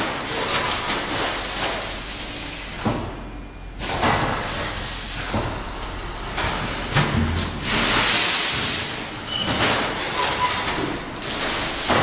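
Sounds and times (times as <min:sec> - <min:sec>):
packing machine humming: 0:00.0 - 0:12.0.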